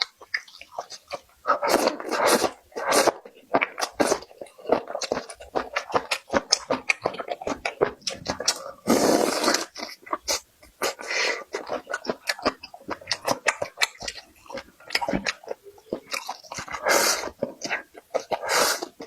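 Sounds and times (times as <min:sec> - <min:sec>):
chewing food with wet smacks: 0:00.0 - 0:19.0
slurping: 0:00.0 - 0:19.0.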